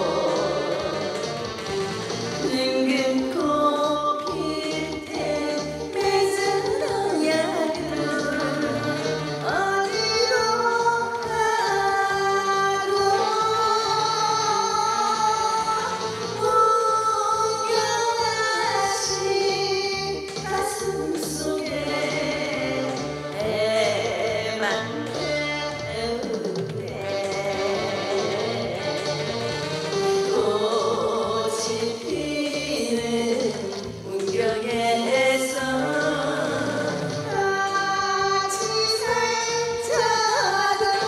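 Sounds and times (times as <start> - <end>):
woman singing into microphone: 0.0 - 1.8, 2.4 - 41.0
instrumental accompaniment: 0.0 - 41.0.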